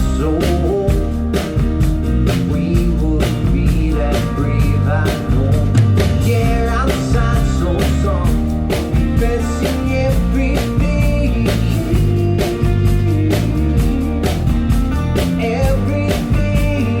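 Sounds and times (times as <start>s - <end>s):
man singing: 0.0s - 1.6s, 2.2s - 17.0s
live rock band playing: 0.0s - 17.0s.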